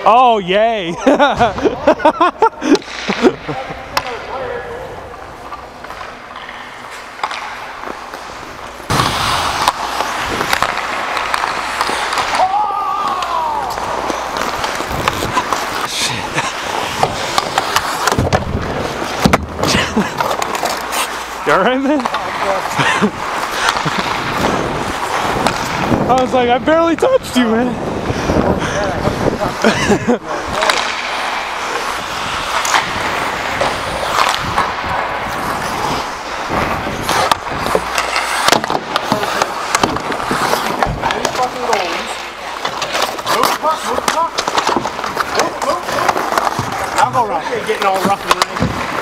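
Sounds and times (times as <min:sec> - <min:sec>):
hockey sticks clacking: 0:00.0 - 0:49.0
skate blades scraping ice: 0:00.7 - 0:49.0.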